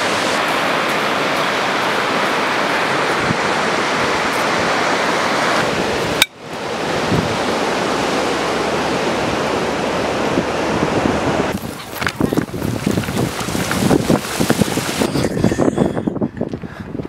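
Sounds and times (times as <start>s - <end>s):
ocean surf rushing: 0.0s - 15.6s.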